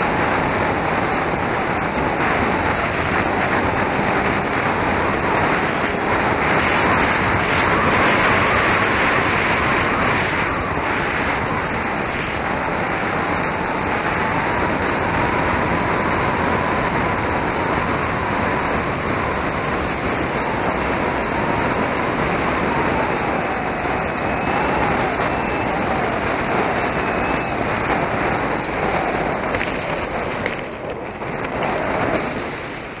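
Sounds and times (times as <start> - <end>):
wind rushing over camera: 0.0 - 33.0.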